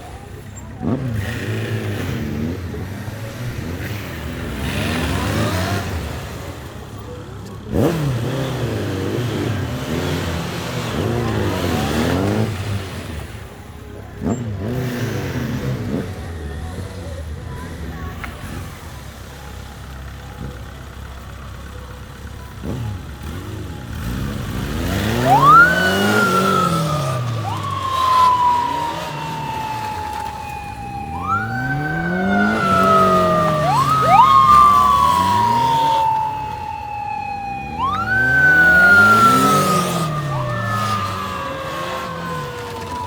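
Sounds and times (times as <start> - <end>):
motorcycle engines: 0.0 - 43.0
police sirens wailing: 0.0 - 43.0.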